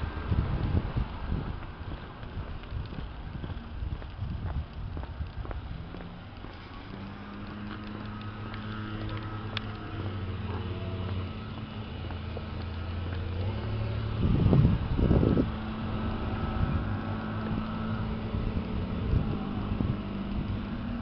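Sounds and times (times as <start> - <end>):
car engine hum: 0.0 - 21.0.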